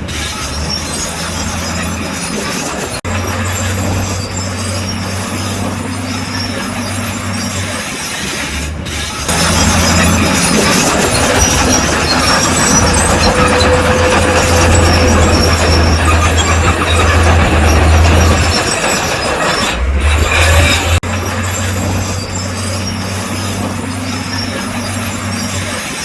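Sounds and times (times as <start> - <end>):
bulldozer diesel engine under load: 0.0 - 26.0
steel tracks clattering and grinding: 0.0 - 26.0.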